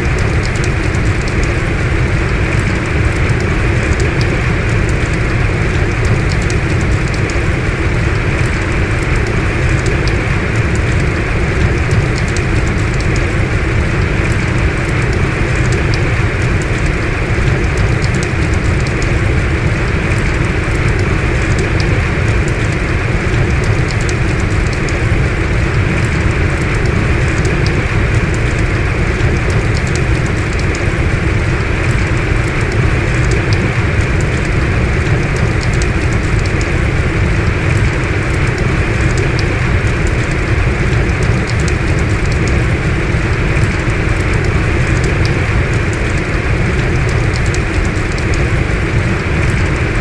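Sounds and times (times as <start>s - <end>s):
heavy rain hissing: 0.0s - 50.0s
raindrops ticking: 0.0s - 50.0s.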